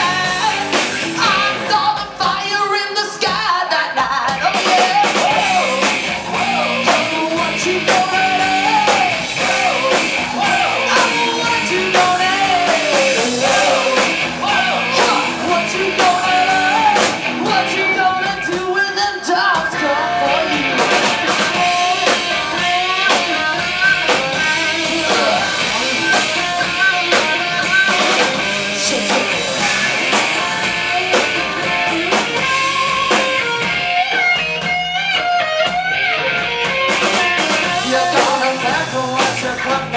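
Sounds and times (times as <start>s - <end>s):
woman singing: 0.0s - 33.6s, 37.5s - 39.9s
live rock band playing: 0.0s - 39.9s.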